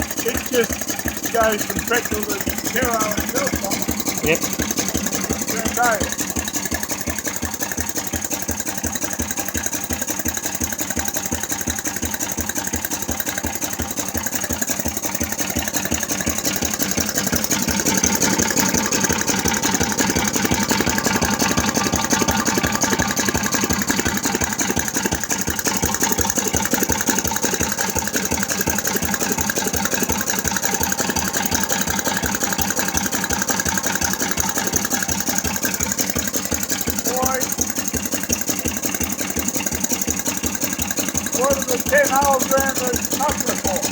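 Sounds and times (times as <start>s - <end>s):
vertical engine running: 0.0s - 43.9s.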